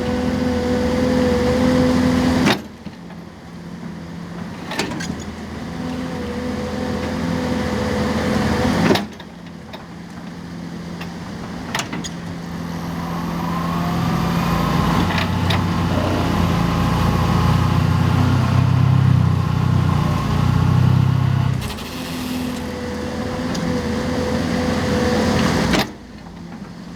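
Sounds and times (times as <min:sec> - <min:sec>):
excavator engine and hydraulic drone: 0:00.0 - 0:26.9.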